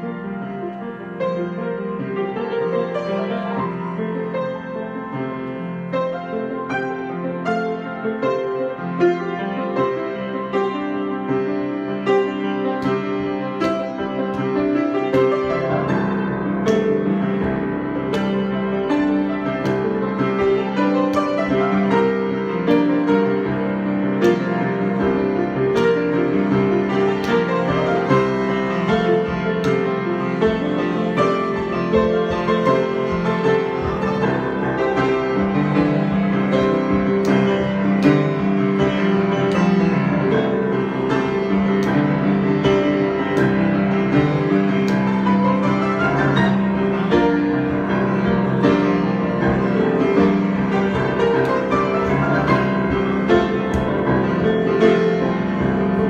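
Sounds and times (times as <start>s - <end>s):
solo piano improvisation: 0.0s - 56.0s.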